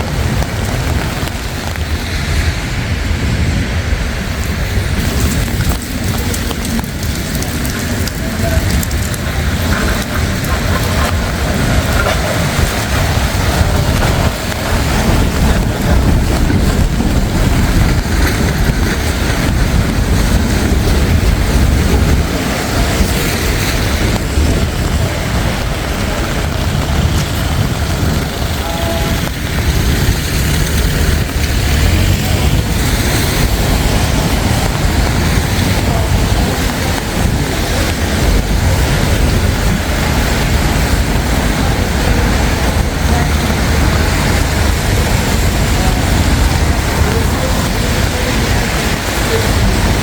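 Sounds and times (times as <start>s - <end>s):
low rumble of vehicles: 0.0s - 50.0s
tyres hissing on wet road: 0.0s - 50.0s.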